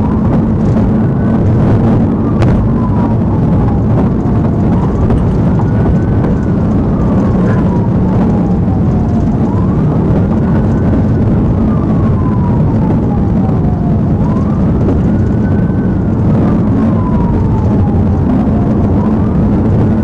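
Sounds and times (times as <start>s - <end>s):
car road noise at speed: 0.0s - 20.0s
police siren wailing: 0.0s - 20.0s.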